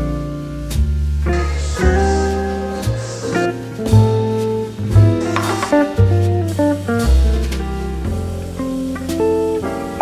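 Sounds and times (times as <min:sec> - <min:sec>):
steady bass: 0:00.0 - 0:09.8
plucked guitar chords: 0:01.2 - 0:10.0.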